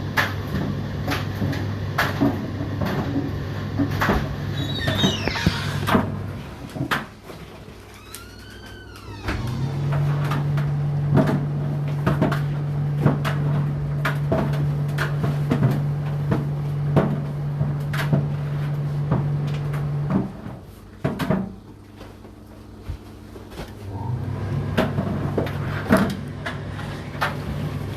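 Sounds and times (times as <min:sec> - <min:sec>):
tumble dryer motor humming: 0:00.0 - 0:27.9.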